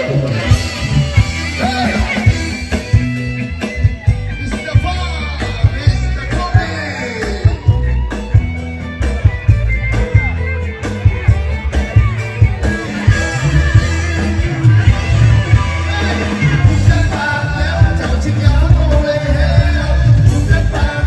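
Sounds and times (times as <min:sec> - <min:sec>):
bass line: 0:00.0 - 0:21.0
drum beats: 0:00.0 - 0:21.0
guitar: 0:00.0 - 0:21.0.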